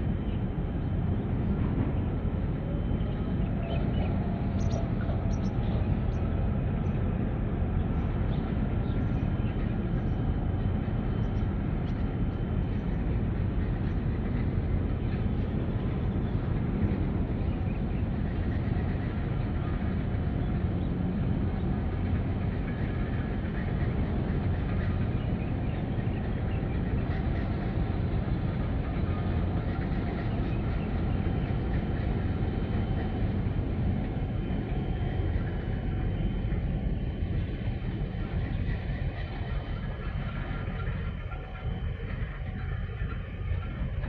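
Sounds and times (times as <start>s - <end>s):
faint distant hum: 0.0s - 44.0s.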